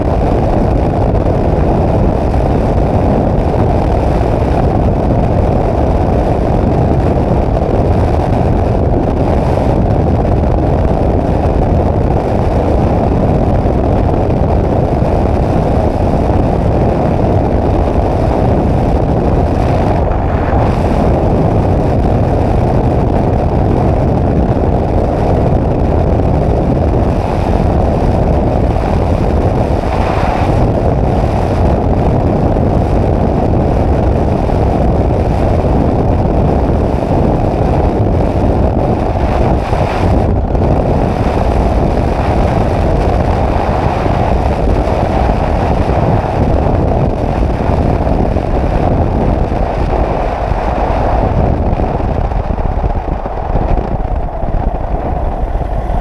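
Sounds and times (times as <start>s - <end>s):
air rushing over microphone: 0.0s - 56.0s
microlight engine drone: 0.0s - 56.0s.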